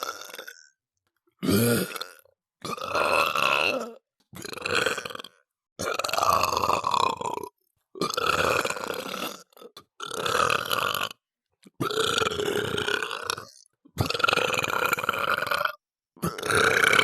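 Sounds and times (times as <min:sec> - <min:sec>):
person burping: 0:00.0 - 0:00.8, 0:01.4 - 0:11.2, 0:11.8 - 0:17.0.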